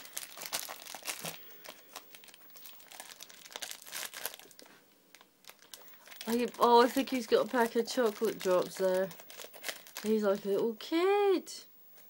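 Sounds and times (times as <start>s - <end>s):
plastic packet crinkling: 0.0s - 10.8s.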